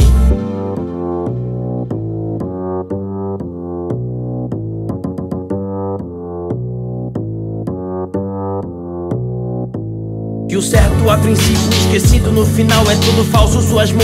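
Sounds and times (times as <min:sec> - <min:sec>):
muffled hip-hop beat: 0:00.0 - 0:09.6, 0:10.5 - 0:14.0.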